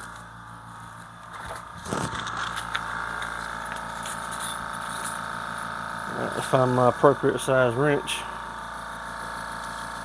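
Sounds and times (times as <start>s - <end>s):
machine motor running: 0.0s - 10.0s.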